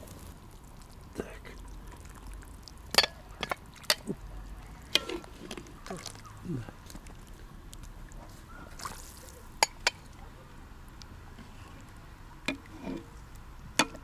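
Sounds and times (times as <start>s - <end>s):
broth dripping and splashing: 0.0s - 14.0s.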